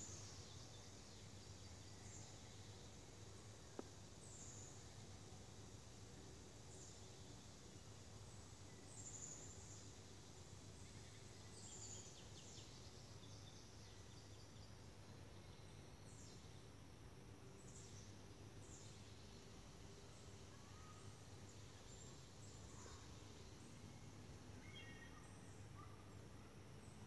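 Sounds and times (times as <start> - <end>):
faint steady low hum: 0.0 - 27.0.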